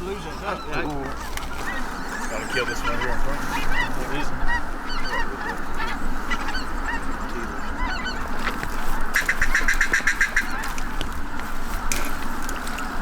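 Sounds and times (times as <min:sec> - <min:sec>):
run of short bird calls: 0:00.0 - 0:11.9
flock of waterfowl calling: 0:00.0 - 0:13.0.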